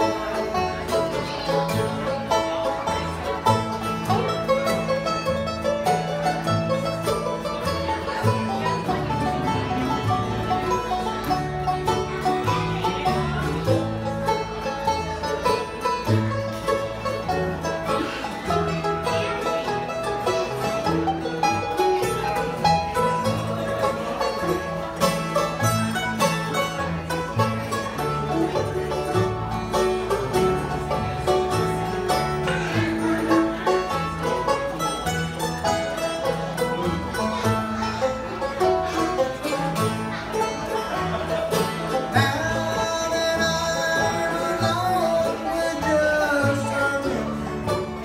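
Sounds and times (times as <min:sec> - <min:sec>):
bluegrass band playing: 0:00.0 - 0:48.0.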